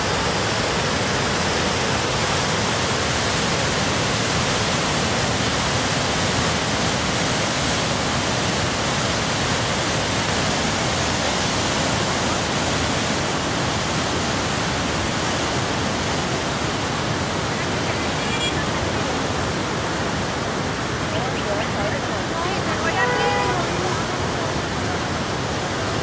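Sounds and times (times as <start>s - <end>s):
flooded river rushing: 0.0s - 26.0s.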